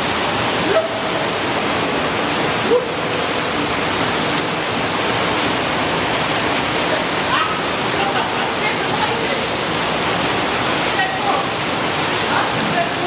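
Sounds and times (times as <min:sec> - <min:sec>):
rushing water in cave stream: 0:00.0 - 0:13.0.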